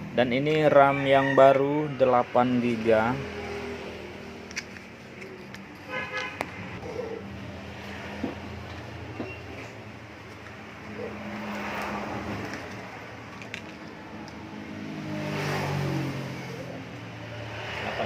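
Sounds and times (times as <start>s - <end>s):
traffic engines humming: 0.0s - 18.0s.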